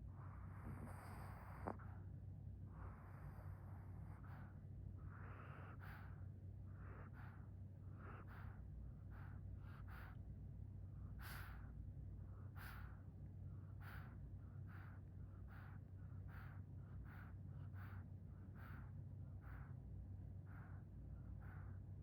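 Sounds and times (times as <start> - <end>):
dog snoring softly: 0.0 - 22.0
steady low hum: 0.0 - 22.0.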